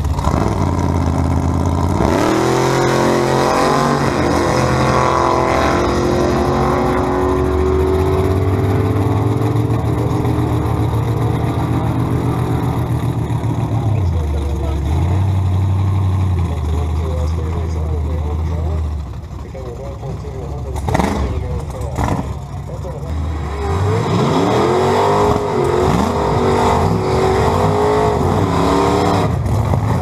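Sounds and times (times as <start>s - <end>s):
drag car engine revving: 0.0s - 30.0s.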